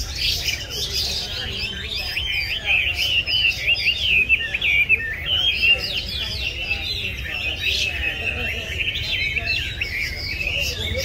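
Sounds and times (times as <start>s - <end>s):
bird singing whistled notes: 0.0s - 11.0s.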